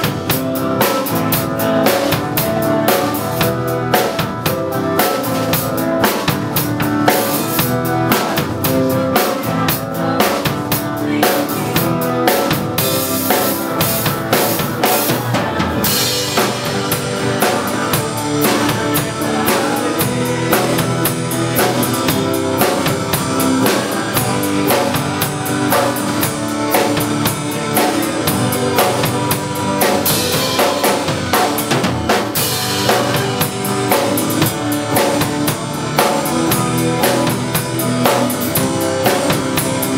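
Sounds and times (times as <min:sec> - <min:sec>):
background music with drum beat: 0:00.0 - 0:39.9.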